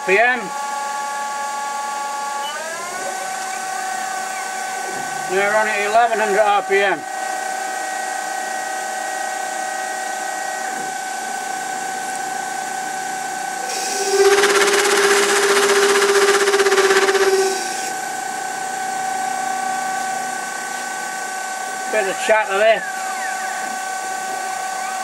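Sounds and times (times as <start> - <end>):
lathe whine: 0.0 - 25.0.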